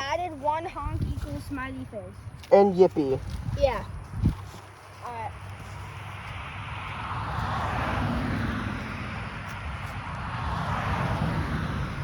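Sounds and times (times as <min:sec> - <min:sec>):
traffic passing: 0:00.0 - 0:12.0.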